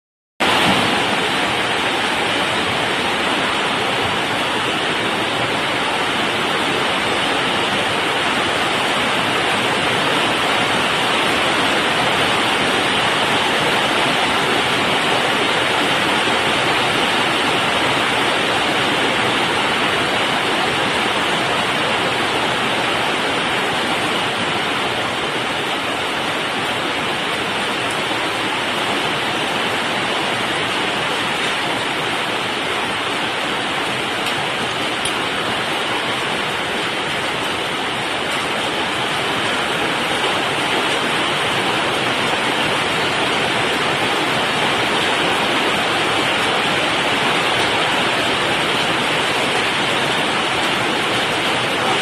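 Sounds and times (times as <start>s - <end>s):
heavy rain pouring: 0.4s - 52.0s.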